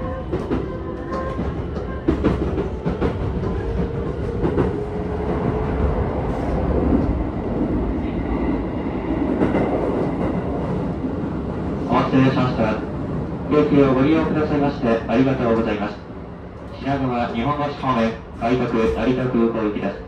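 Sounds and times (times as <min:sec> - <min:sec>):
train rolling rumble: 0:00.0 - 0:20.0.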